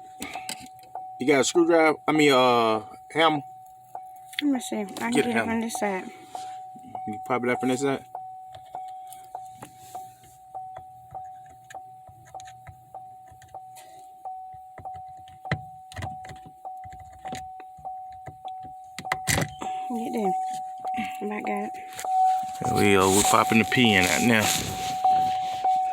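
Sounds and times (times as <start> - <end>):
car warning chime: 0.0 - 25.9.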